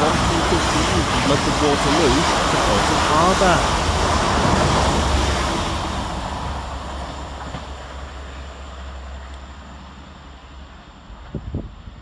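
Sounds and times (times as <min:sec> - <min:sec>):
electric train passing fast: 0:00.0 - 0:12.0.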